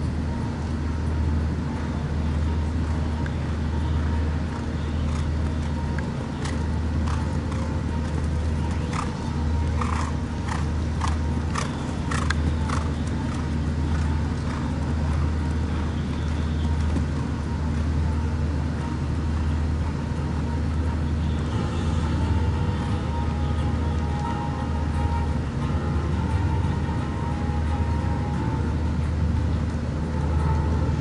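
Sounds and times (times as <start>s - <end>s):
low background rumble: 0.0s - 31.0s
horse hoofbeats cantering: 2.3s - 31.0s.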